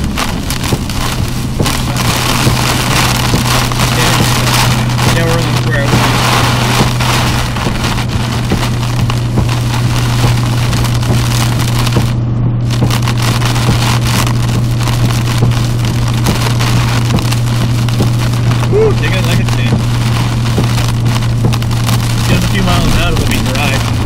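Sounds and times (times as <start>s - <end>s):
engine and tyres droning: 0.0s - 24.0s
heavy rain on vehicle roof: 0.0s - 24.0s.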